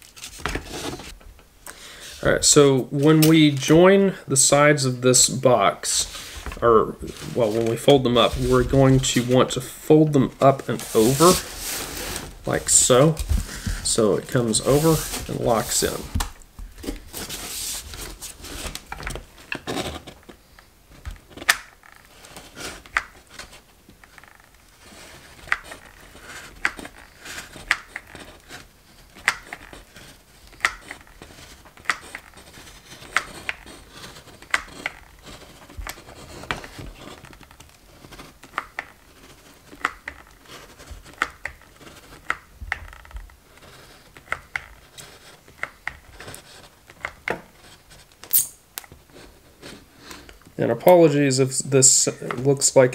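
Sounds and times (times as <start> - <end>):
foam board rubbing: 5.8 - 50.4.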